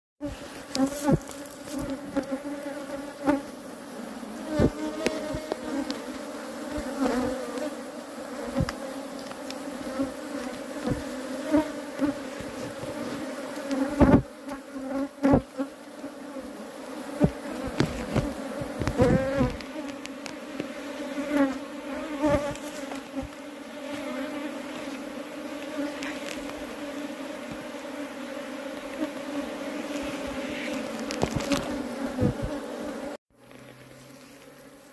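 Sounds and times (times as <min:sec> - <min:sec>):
bees buzzing: 0:00.2 - 0:34.9.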